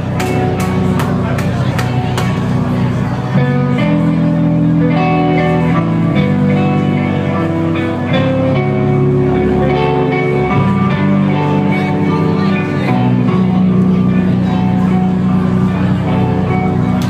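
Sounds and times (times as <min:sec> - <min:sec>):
band playing live: 0:00.0 - 0:17.0.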